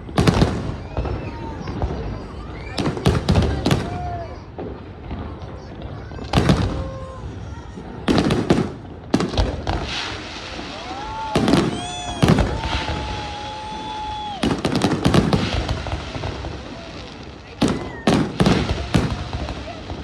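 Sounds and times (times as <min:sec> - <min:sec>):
fireworks bangs and booms: 0:00.0 - 0:20.0.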